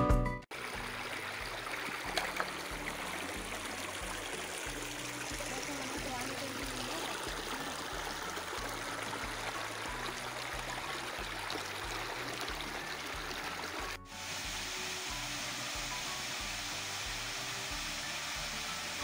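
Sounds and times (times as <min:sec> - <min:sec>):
stream running over stones: 0:00.5 - 0:19.0.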